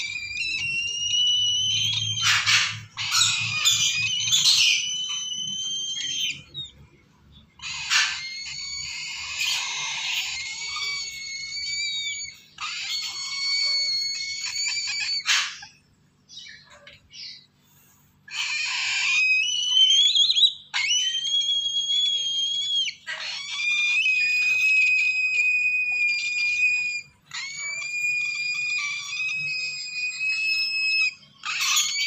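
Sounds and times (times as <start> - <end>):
cockatoo chicks rasping calls: 0.0 - 32.0.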